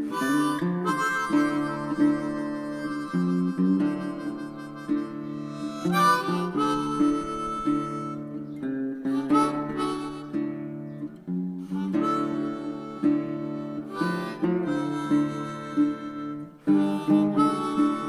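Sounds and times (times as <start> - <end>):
acoustic guitar: 0.0 - 18.0
harmonica playing held notes: 0.0 - 18.0.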